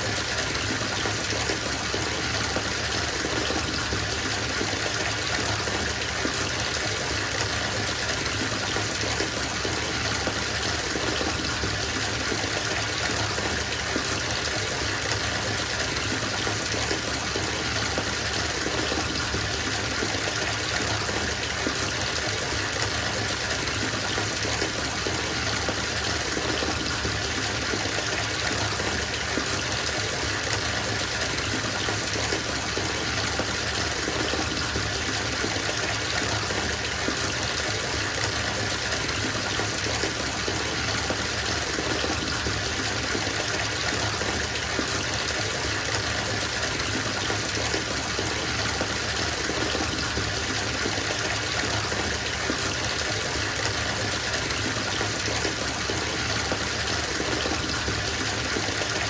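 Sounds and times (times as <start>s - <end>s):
water gushing into bathtub: 0.0s - 59.0s.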